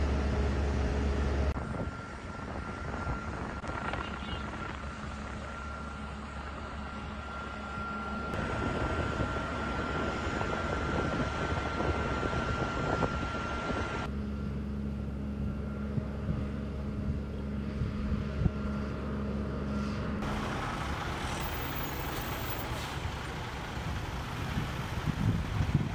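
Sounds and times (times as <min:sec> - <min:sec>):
engine rumble: 0:00.0 - 0:25.9.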